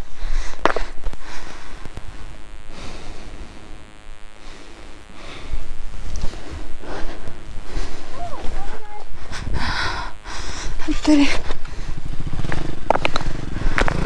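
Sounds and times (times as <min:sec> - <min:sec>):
person breathing hard: 0:00.0 - 0:12.3, 0:13.2 - 0:14.0.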